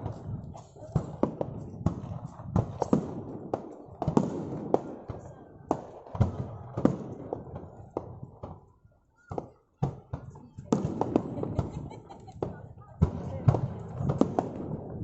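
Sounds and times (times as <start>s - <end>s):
fireworks bangs: 0.0s - 15.0s
fireworks rumble and crackle: 0.0s - 15.0s.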